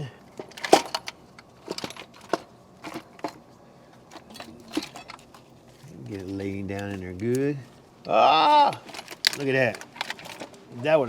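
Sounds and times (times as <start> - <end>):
metal parts clicking and knocking: 0.0 - 7.5, 8.6 - 11.0.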